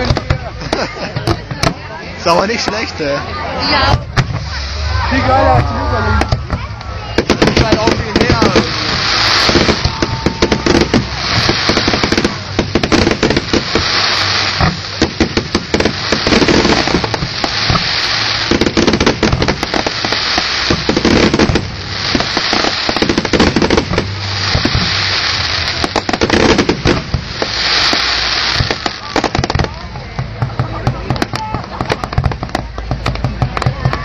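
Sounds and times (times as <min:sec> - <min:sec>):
fireworks crackling and popping: 0:00.0 - 0:34.0.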